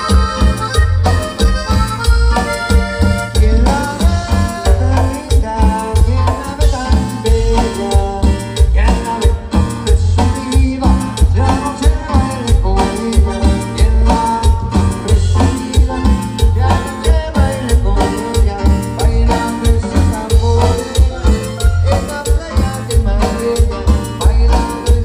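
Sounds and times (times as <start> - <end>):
cumbia band playing: 0.0 - 25.0
heavy bass beat: 0.0 - 25.0.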